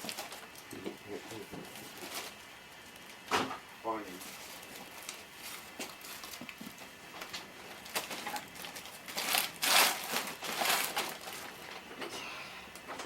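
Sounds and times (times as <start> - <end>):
rustling and crinkling handling: 0.0 - 12.2.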